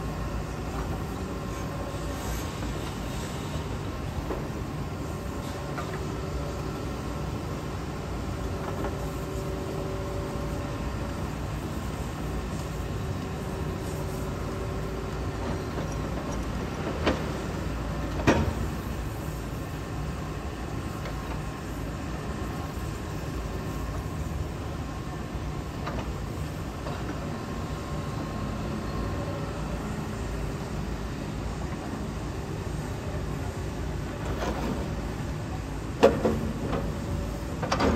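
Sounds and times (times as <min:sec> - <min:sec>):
excavator diesel engine rumble: 0:00.0 - 0:37.9.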